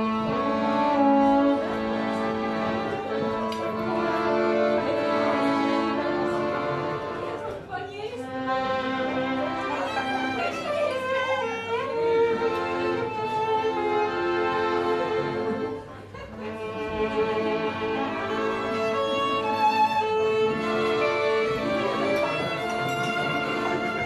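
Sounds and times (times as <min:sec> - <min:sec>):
piano accordion playing: 0:00.0 - 0:24.0
violin melody: 0:00.0 - 0:24.0.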